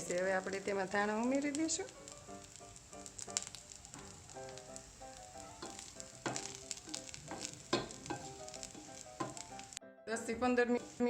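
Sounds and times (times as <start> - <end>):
rice sizzling in a pan: 0.0 - 11.0
soft instrumental music: 0.1 - 11.0.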